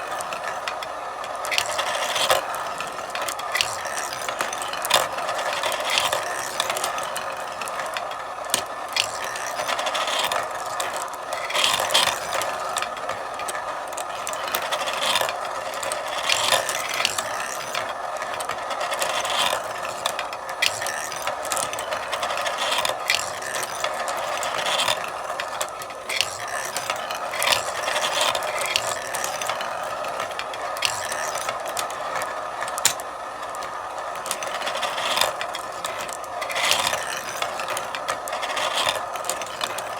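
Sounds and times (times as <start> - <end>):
marbles rolling on a marble run: 0.0 - 39.9.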